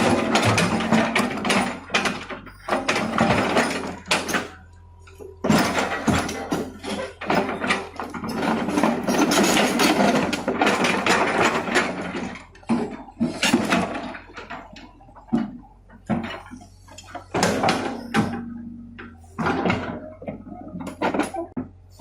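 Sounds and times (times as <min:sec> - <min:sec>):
machinery knocking and clattering: 0:00.0 - 0:21.8.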